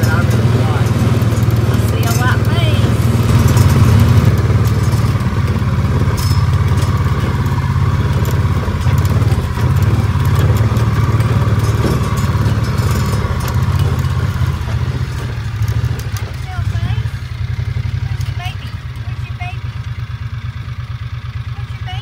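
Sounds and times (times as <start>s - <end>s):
light rattles: 0.0s - 21.4s
utility vehicle engine running: 0.0s - 22.0s.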